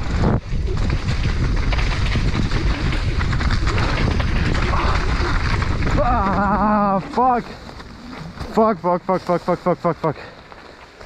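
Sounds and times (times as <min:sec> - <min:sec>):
wind rumble on microphone: 0:00.0 - 0:09.1
bike rattles and knocks: 0:00.0 - 0:09.4
bike tyres on loose dirt: 0:00.0 - 0:11.0.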